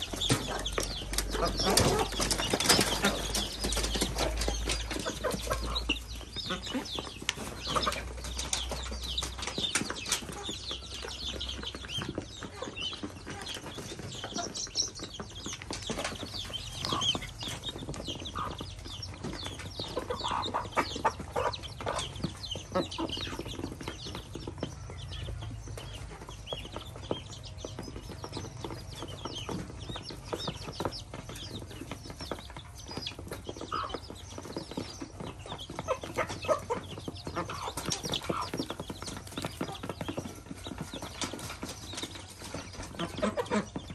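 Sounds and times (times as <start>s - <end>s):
chicks and ducklings peeping: 0.0s - 43.9s
hens clucking: 0.0s - 43.9s.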